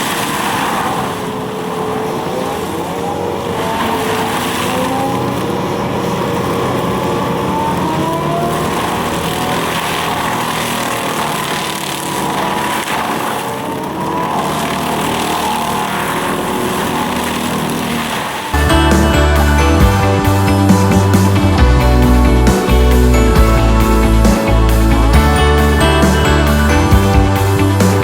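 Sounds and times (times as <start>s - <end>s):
excavator mulcher running: 0.0s - 28.0s
machine whine: 0.0s - 28.0s.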